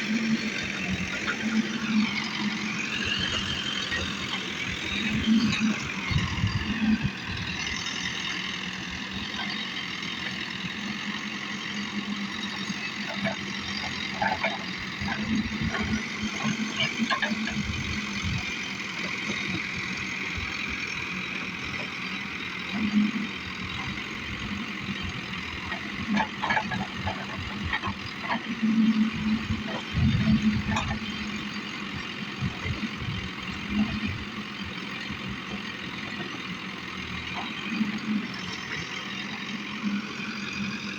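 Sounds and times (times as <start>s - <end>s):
diesel engine running: 0.0s - 40.9s
high engine whine: 0.0s - 40.9s.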